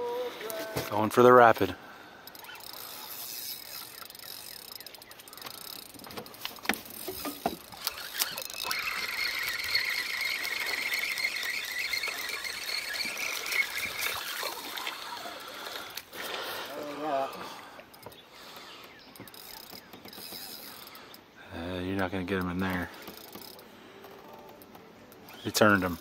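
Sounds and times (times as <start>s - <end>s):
fishing reel drag whining: 2.1s - 21.3s, 22.7s - 26.0s
reel clicks: 2.2s - 21.3s, 22.3s - 26.0s.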